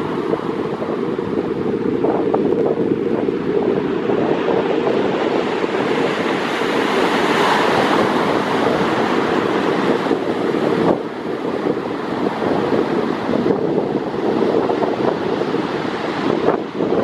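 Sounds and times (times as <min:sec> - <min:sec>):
surf washing on shore: 0:00.0 - 0:17.0
wind buffeting microphone: 0:00.0 - 0:17.0.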